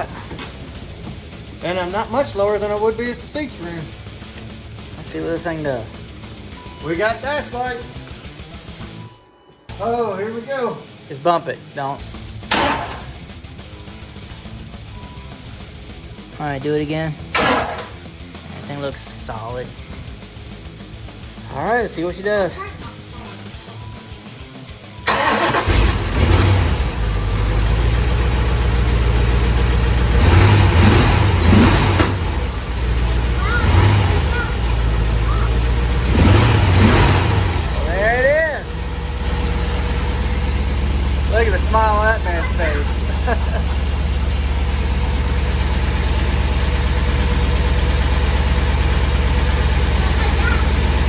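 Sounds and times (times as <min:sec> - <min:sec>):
car engine cranking and running: 0:00.0 - 0:09.1, 0:12.0 - 0:51.0.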